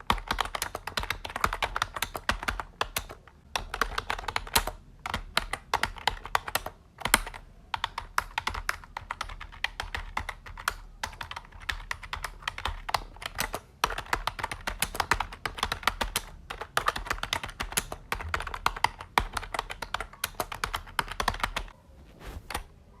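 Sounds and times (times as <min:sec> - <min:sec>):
fast typing on keyboard: 0:00.0 - 0:21.7.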